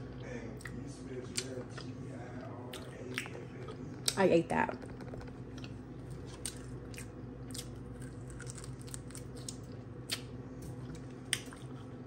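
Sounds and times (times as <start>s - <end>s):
person chewing food: 0.0s - 4.2s, 4.8s - 12.0s
steady low hum: 0.0s - 12.0s.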